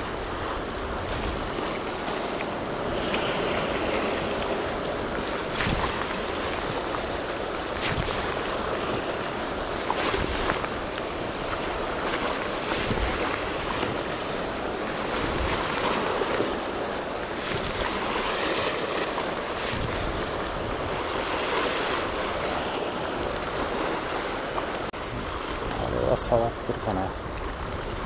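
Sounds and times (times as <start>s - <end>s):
surf washing against rocks: 0.0s - 28.0s
wind on the microphone: 0.0s - 28.0s.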